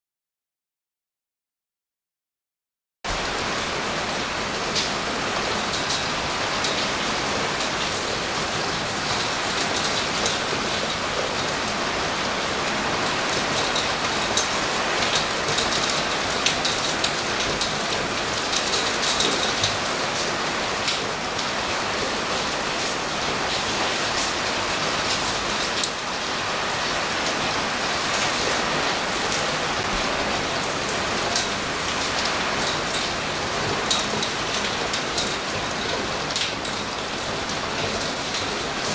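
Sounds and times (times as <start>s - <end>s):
heavy rain on roofs and street: 3.1s - 38.9s.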